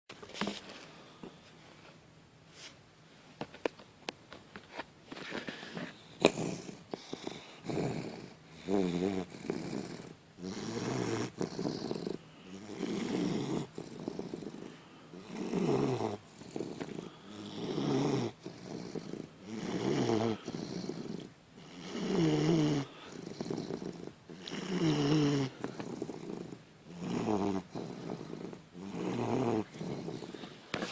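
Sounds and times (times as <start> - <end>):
puppy snoring: 5.4 - 30.9.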